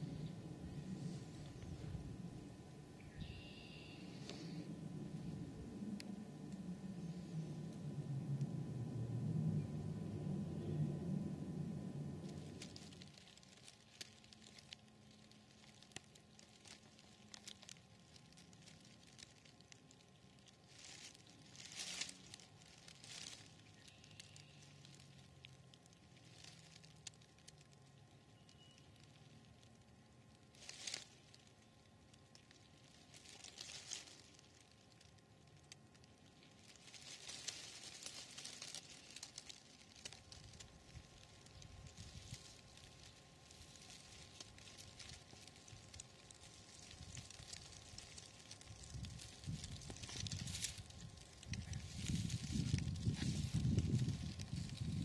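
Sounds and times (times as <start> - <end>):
dry leaves crackling: 0.0 - 55.0.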